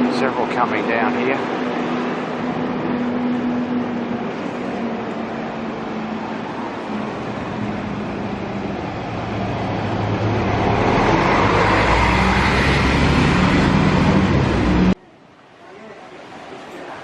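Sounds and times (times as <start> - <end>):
bus engine passing: 0.0 - 15.0
tyre and road noise: 0.0 - 15.0.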